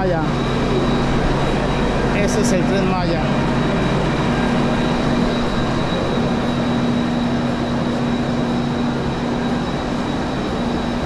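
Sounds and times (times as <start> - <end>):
idling train low hum: 0.0 - 11.0
thin high whine: 0.0 - 11.0.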